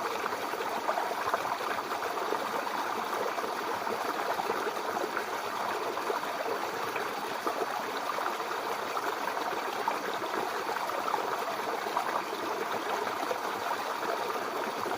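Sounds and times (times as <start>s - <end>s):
river water flowing over rocks: 0.0s - 14.9s.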